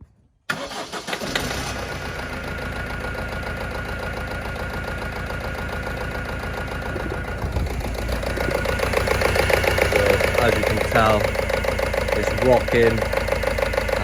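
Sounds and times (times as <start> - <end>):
diesel engine running unevenly: 1.3 - 14.0.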